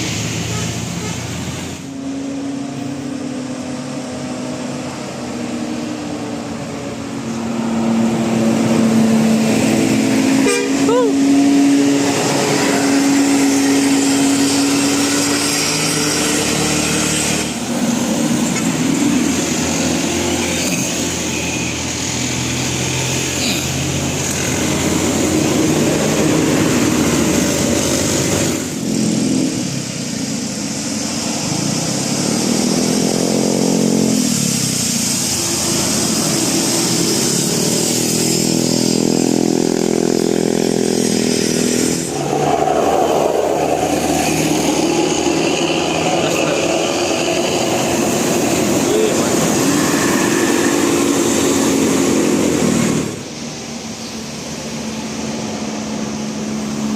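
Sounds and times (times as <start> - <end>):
vehicle engines running loudly: 0.0 - 56.9.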